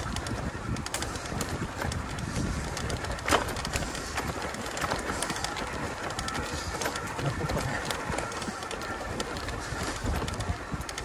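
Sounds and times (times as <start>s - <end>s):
bike rattling on rough trail: 0.0s - 11.0s.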